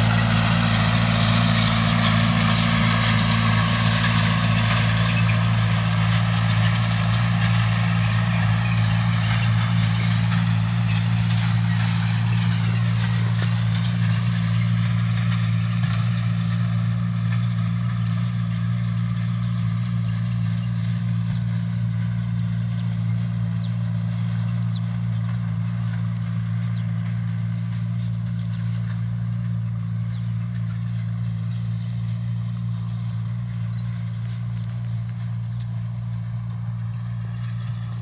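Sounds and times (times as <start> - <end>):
tractor engine under load: 0.0 - 38.0.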